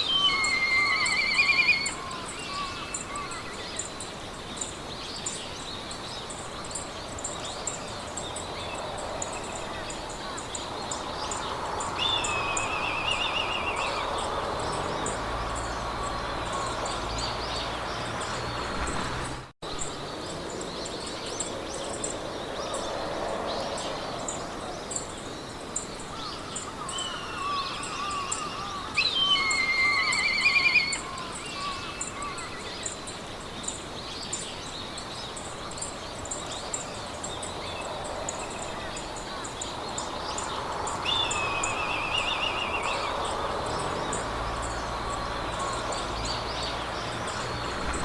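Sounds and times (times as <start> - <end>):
birds warbling and trilling: 0.0 - 48.0
wind in grass: 0.0 - 48.0.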